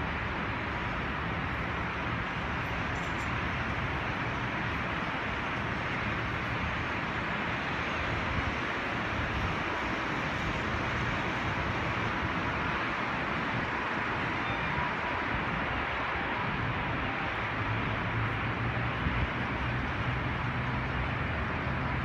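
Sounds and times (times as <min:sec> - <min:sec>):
distant road traffic hum: 0:00.0 - 0:22.0.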